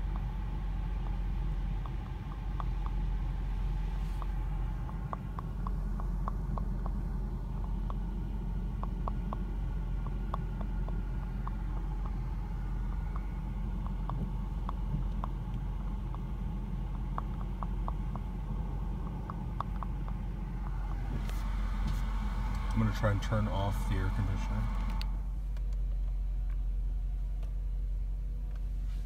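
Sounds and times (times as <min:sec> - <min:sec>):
light knocking ticks: 0:00.0 - 0:26.6
car engine idling: 0:00.0 - 0:29.0.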